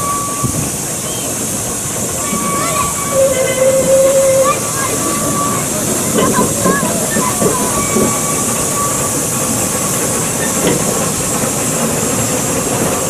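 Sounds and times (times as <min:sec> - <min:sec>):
steam hissing: 0:00.0 - 0:13.0
wheels running on rails: 0:00.0 - 0:13.0.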